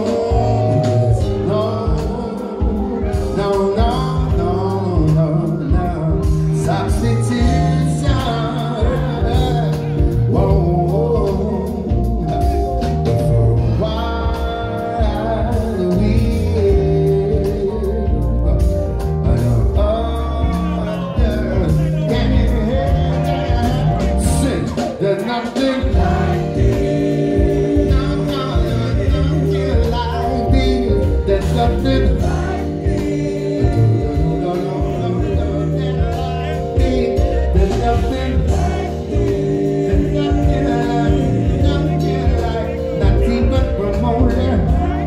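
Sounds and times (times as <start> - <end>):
man singing: 0.0 - 45.0
soul band playing: 0.0 - 45.0.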